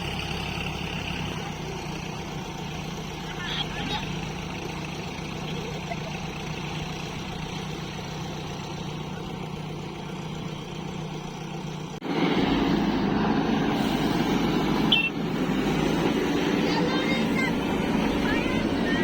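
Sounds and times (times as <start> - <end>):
diesel engine of farm machinery: 0.0 - 19.0.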